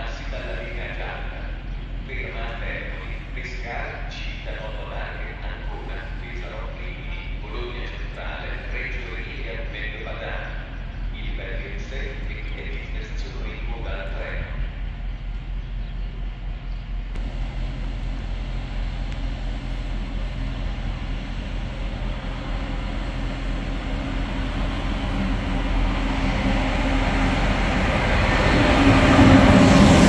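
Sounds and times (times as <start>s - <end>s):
freight train rumbling past: 0.0s - 30.0s
high-speed train rushing past: 0.0s - 30.0s.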